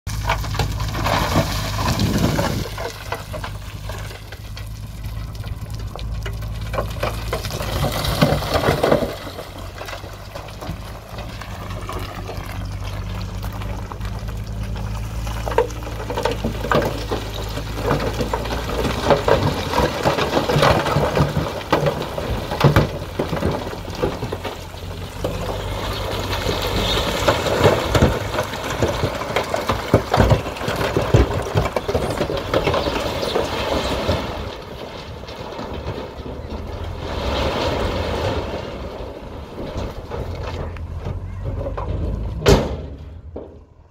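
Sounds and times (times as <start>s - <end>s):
diesel engine running: 0.0s - 43.9s
rocks tumbling and clattering: 0.1s - 43.9s.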